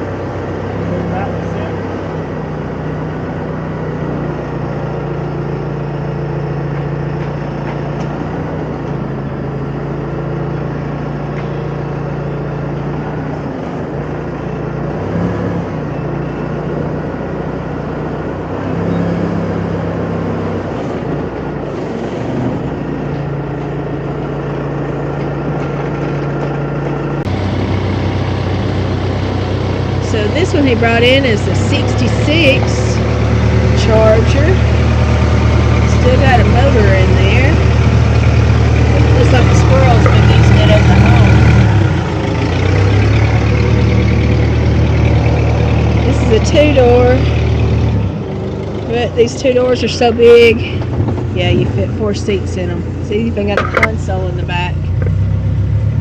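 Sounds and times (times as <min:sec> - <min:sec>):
heavy vehicle engine idling: 0:00.0 - 0:56.0.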